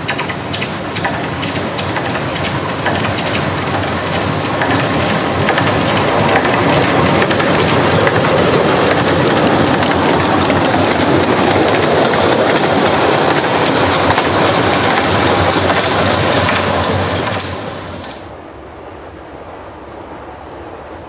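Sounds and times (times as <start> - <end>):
wheels clattering on rails: 0.0 - 18.3
steam train passing: 0.0 - 21.0.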